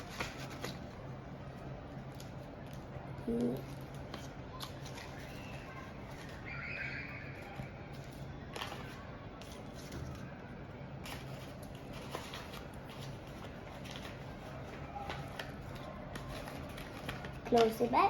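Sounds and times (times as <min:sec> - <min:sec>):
light taps and rustles of paper: 0:00.0 - 0:06.5, 0:07.4 - 0:10.4, 0:11.0 - 0:18.0
low background hum: 0:00.0 - 0:18.0.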